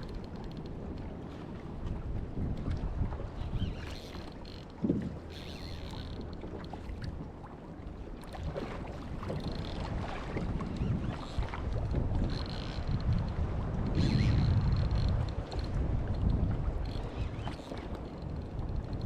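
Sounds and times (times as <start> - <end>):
water sloshing around kayak: 0.0 - 19.0
wind buffeting microphone: 0.0 - 19.0.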